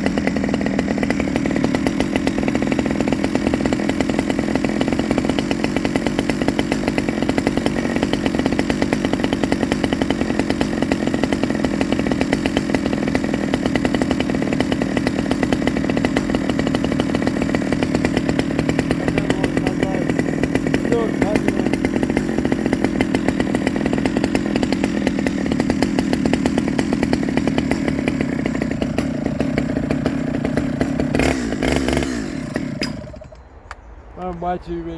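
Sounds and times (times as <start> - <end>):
chainsaw engine running steadily: 0.0 - 34.9.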